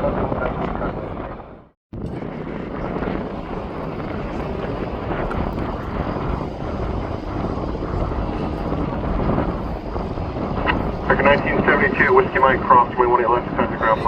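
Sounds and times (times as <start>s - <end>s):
jet engine rumbling: 0.0s - 14.0s.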